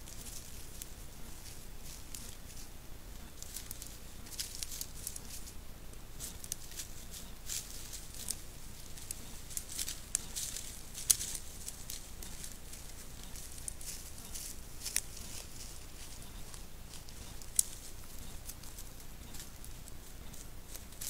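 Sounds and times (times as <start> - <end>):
animals rustling dry grass and leaves: 0.0 - 21.0
low hiss: 0.0 - 21.0.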